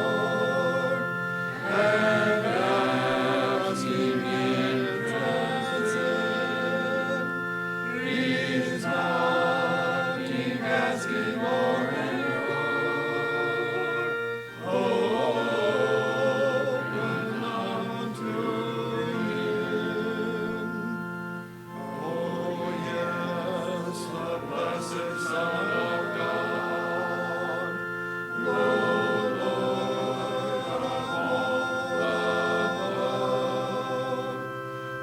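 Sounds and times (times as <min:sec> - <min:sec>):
congregation singing a hymn: 0:00.0 - 0:35.0.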